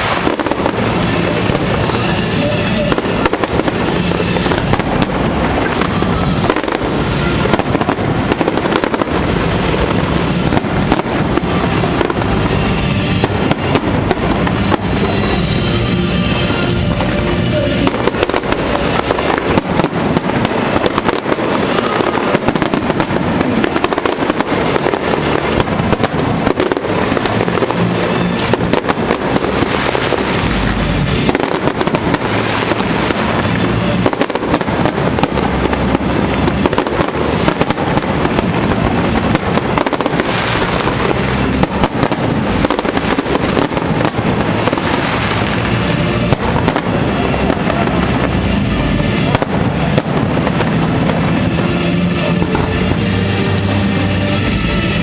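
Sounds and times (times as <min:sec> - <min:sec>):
fireworks bursting and crackling: 0:00.0 - 0:55.0
music playing: 0:00.0 - 0:55.0.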